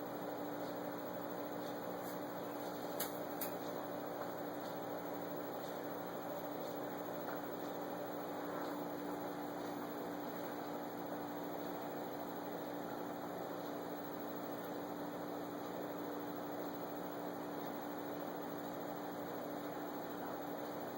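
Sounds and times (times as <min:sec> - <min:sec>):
aquarium equipment hum: 0:00.0 - 0:20.9.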